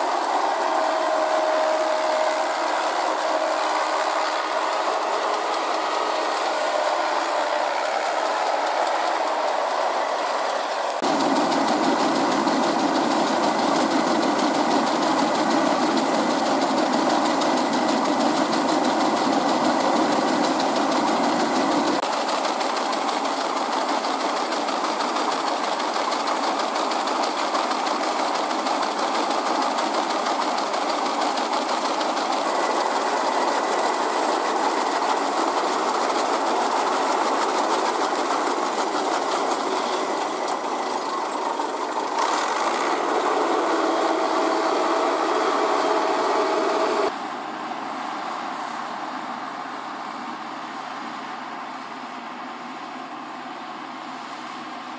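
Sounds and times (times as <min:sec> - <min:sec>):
combine harvester engine and auger: 0:00.0 - 0:54.9.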